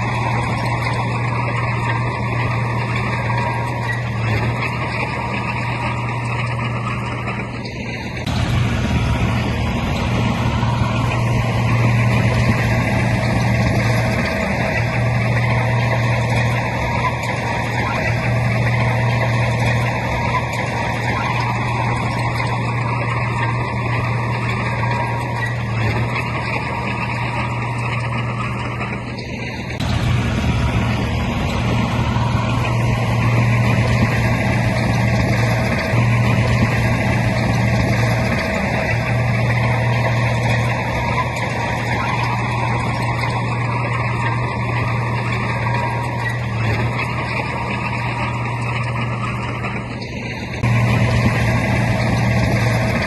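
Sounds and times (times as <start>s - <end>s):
heavy diesel engine under load: 0.0s - 53.0s.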